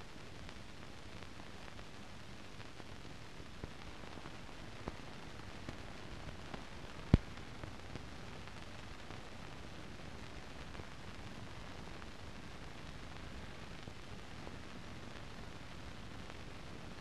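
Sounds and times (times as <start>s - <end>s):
faint crackles: 0.0s - 17.0s
film soundtrack hiss: 0.0s - 17.0s.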